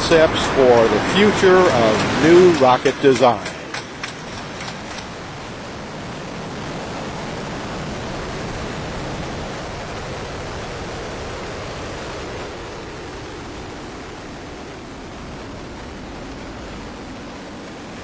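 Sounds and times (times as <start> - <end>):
rocket motor roaring: 0.0 - 17.2.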